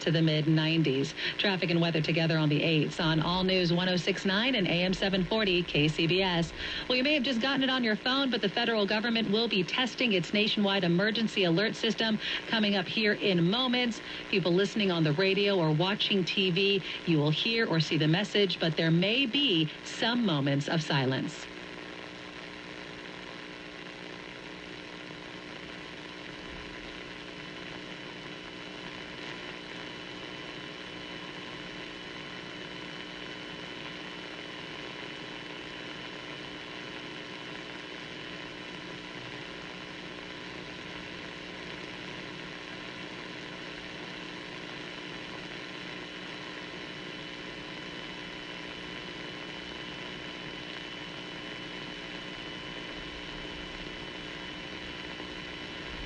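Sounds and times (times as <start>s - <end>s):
constant low hum: 0.0s - 56.0s
faint high whine: 0.0s - 56.0s
steady radio hiss: 0.0s - 56.0s.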